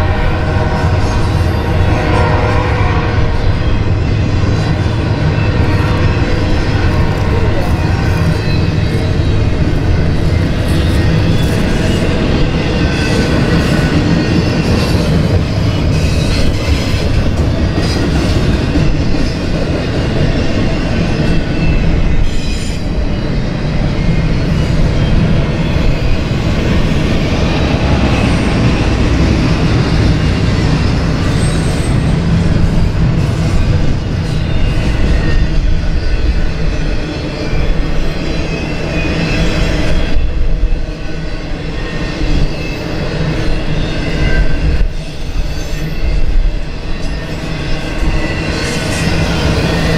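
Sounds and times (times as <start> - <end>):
freight train rumbling past: 0.0 - 49.9
wheels clacking on rail: 0.0 - 49.9.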